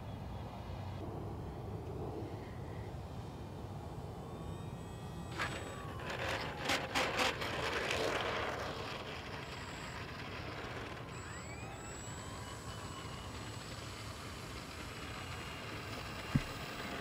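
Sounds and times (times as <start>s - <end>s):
faint electric motor whine: 0.0s - 17.0s.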